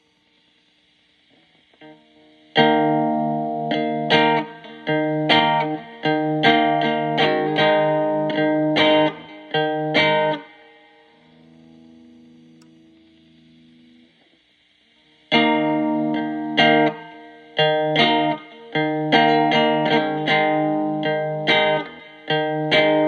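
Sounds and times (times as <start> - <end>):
distorted electric guitar: 1.1 - 23.0.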